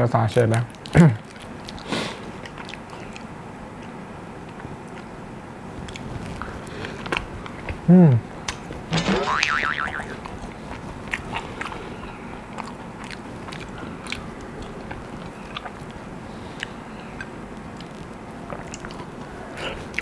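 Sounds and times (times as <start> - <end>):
person chewing and eating: 0.3 - 5.2, 5.8 - 8.8, 9.6 - 20.0.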